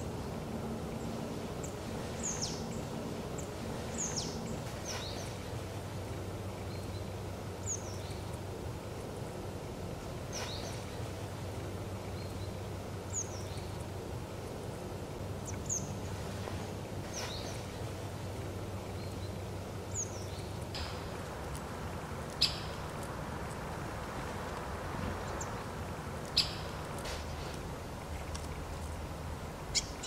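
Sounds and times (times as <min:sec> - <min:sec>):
small birds chirping: 0:00.0 - 0:05.7, 0:06.5 - 0:08.6, 0:10.0 - 0:14.7, 0:17.0 - 0:29.0, 0:29.6 - 0:30.0
steady low background hum: 0:00.0 - 0:30.0.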